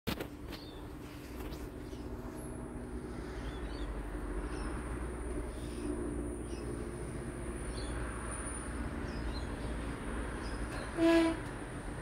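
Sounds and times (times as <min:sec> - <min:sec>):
steady low hum: 0:00.3 - 0:10.5.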